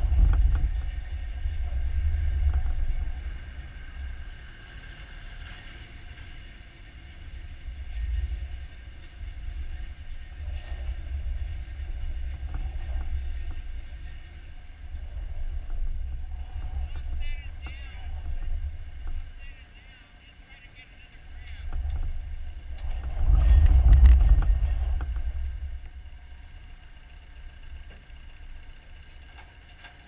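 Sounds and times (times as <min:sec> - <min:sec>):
pickup truck engine rumbling: 0:00.0 - 0:30.0.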